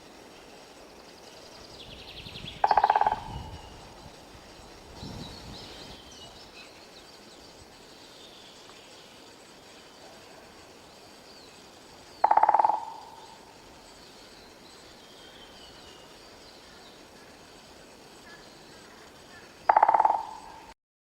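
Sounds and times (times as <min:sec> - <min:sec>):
small birds calling faintly: 0:00.0 - 0:20.8
woodpecker drumming: 0:02.5 - 0:05.0, 0:06.3 - 0:20.8.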